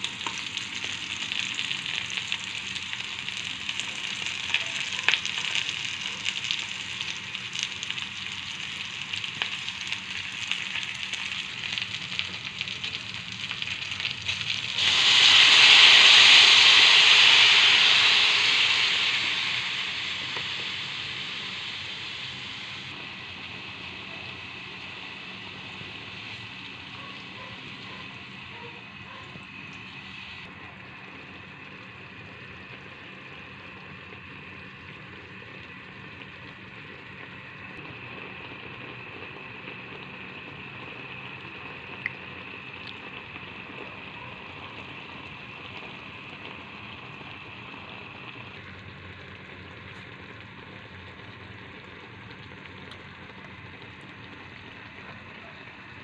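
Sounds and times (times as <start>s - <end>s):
sauce bubbling in wok: 0.0s - 56.0s.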